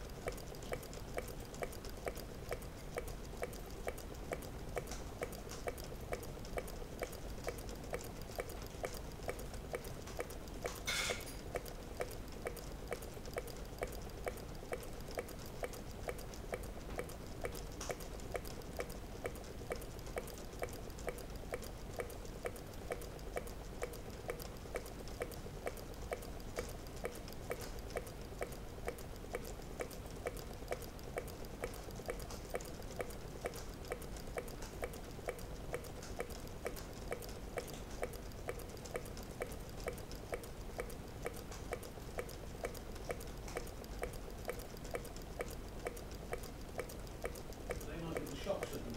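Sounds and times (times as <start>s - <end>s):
model engine mechanism ticking: 0.0s - 48.9s
steady hum: 0.0s - 48.9s.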